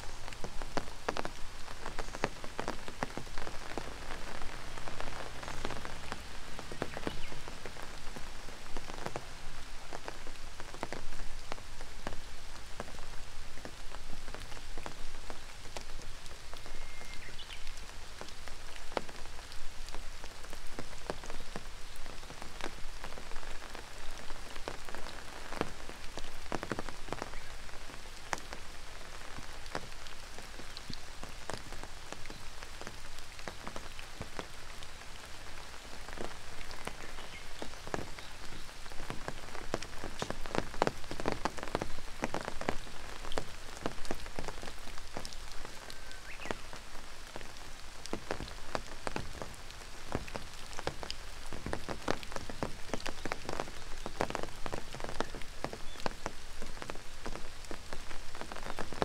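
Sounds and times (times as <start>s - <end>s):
rain drops on hard surfaces: 0.0s - 59.0s.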